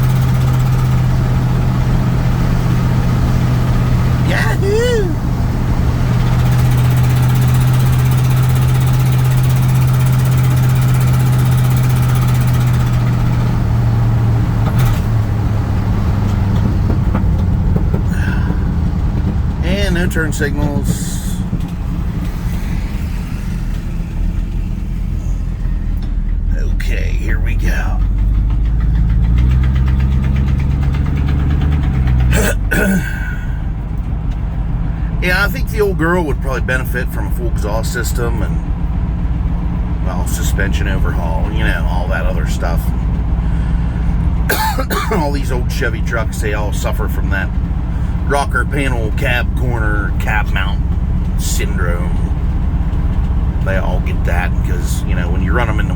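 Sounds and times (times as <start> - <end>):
pickup truck engine droning: 0.0 - 55.9.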